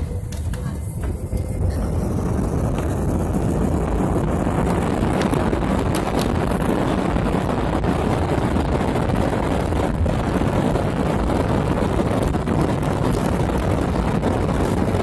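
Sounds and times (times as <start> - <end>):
jet engines and runway rumble: 0.0 - 15.0.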